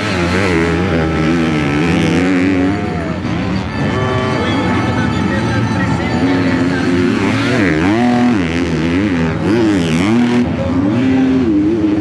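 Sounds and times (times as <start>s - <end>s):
motorbike engine revving hard: 0.0s - 12.0s.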